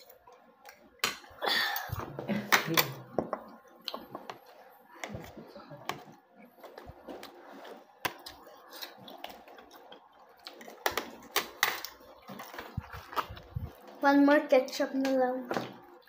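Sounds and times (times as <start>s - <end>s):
child chewing: 0.0s - 14.8s.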